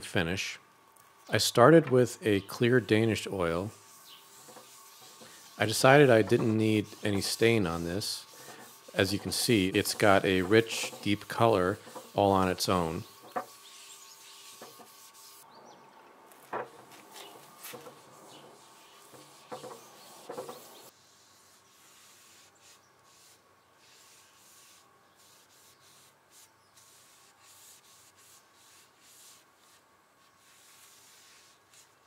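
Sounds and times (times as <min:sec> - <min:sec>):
pad rubbing oil on wood: 0:02.5 - 0:15.4, 0:16.7 - 0:32.0.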